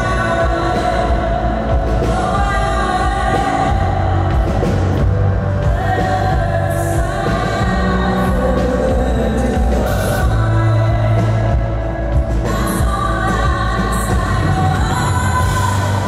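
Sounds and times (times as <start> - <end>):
live band with strong bass: 0.0 - 16.0
woman singing: 0.0 - 16.0.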